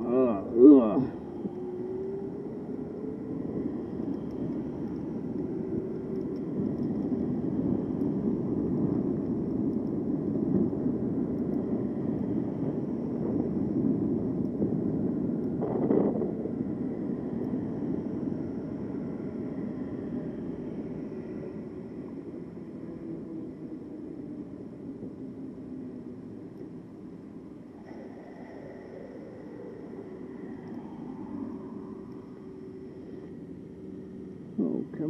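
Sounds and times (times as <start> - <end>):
road noise: 0.0 - 35.0.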